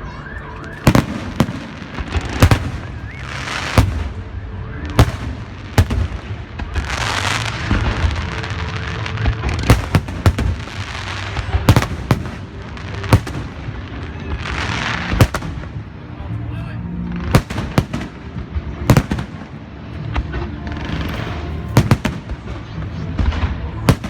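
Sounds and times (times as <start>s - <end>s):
firework bangs: 0.0s - 16.1s, 17.0s - 24.0s.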